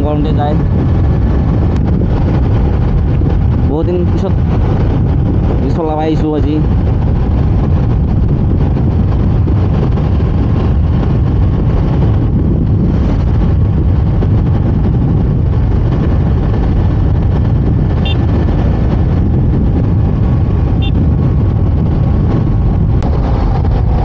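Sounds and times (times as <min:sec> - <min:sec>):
wind rush on microphone: 0:00.0 - 0:24.0.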